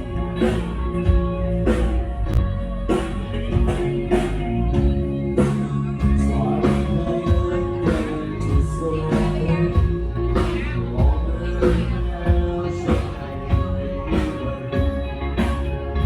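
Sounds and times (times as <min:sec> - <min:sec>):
loud rock music: 0:00.0 - 0:16.0
steady drum beat: 0:00.0 - 0:16.0.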